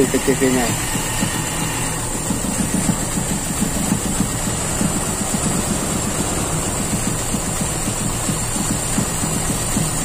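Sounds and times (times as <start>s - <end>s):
rough engine idling: 0.0s - 10.0s.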